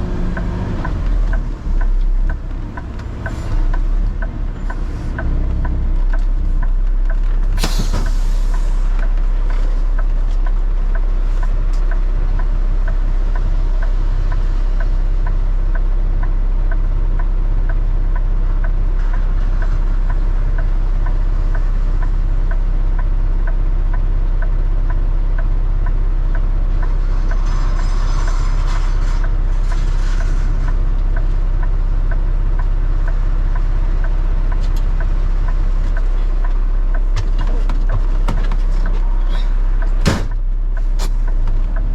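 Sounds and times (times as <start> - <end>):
road noise: 0.0 - 41.9
vehicle engine rumble: 0.0 - 41.9
light regular ticking: 0.1 - 7.5, 8.9 - 41.9.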